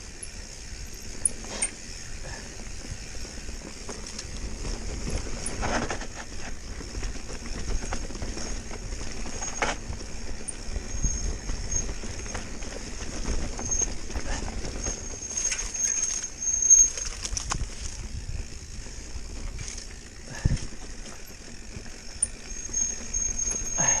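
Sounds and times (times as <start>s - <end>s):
mountain bike rattling: 0.0s - 24.0s.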